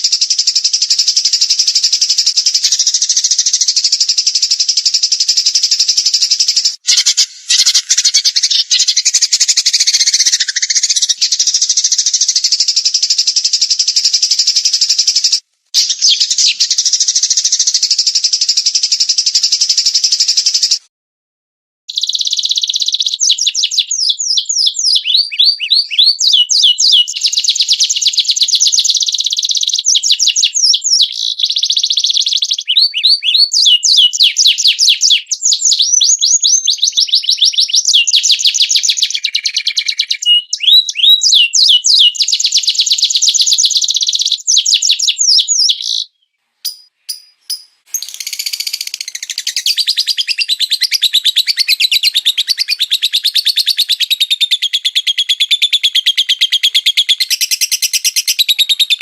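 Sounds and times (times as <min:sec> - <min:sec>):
songbird trilling and warbling: 0:00.0 - 0:15.2, 0:22.0 - 0:59.0.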